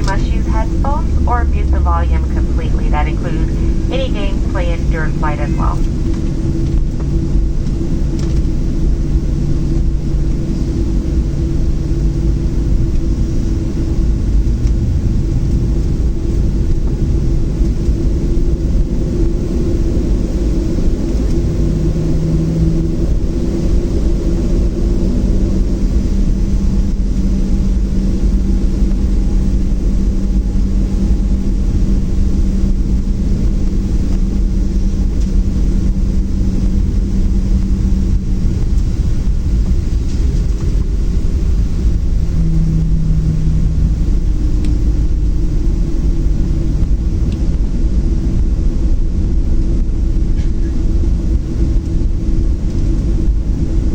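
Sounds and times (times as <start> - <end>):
aircraft cabin rumble: 0.0 - 53.9
steady hums: 0.0 - 53.9.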